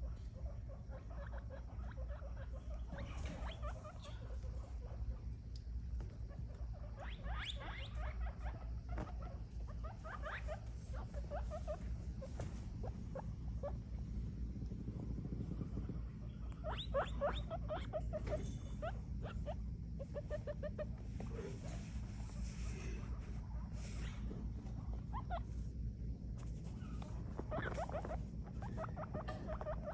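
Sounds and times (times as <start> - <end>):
guinea pig squeaking: 0.0 - 29.9
steady low hum: 0.0 - 29.9.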